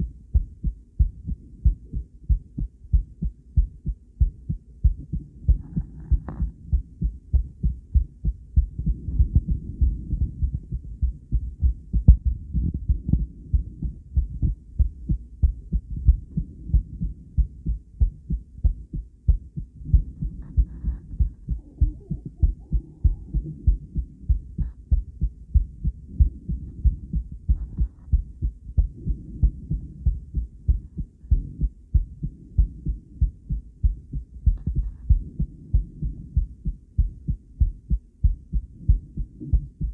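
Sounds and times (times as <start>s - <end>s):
heart beating: 0.0s - 39.9s.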